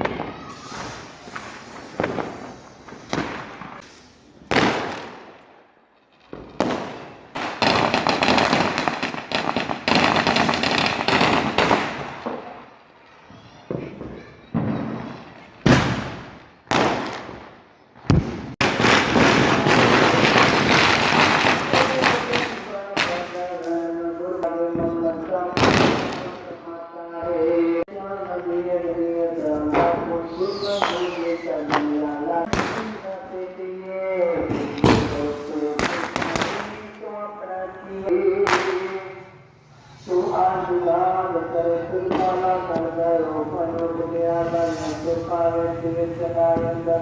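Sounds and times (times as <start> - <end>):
firecracker bangs: 0.0 - 12.7, 13.3 - 26.5, 29.4 - 33.4, 34.2 - 37.1, 38.2 - 40.7, 42.0 - 47.0
rapid firecracker crackling: 0.0 - 26.7, 28.4 - 47.0.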